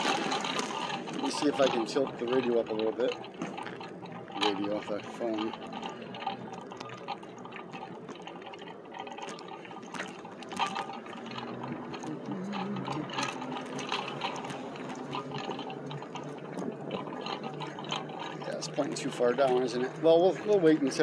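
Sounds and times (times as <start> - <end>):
bike clicks and rattles: 0.0 - 21.0.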